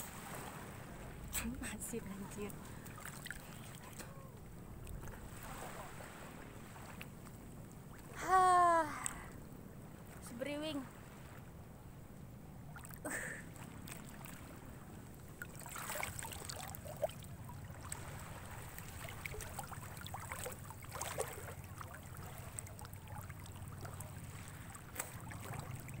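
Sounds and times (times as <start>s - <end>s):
seawater sloshing and splashing: 0.0s - 8.2s, 12.5s - 26.0s.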